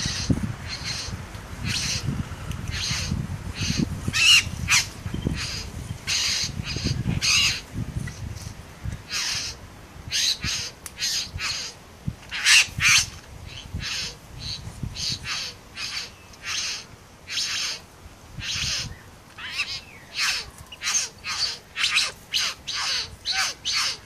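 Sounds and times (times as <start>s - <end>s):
bird giving harsh rasping calls: 0.0s - 2.1s, 2.7s - 7.6s, 9.1s - 17.8s, 18.4s - 24.0s.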